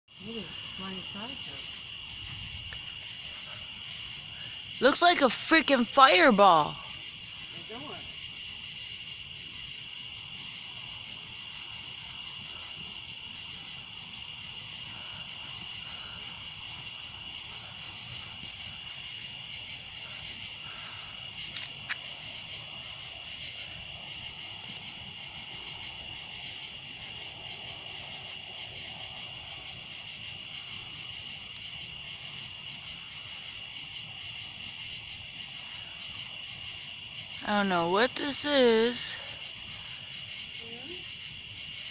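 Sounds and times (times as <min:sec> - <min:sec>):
crickets and insects trilling: 0:00.1 - 0:41.9.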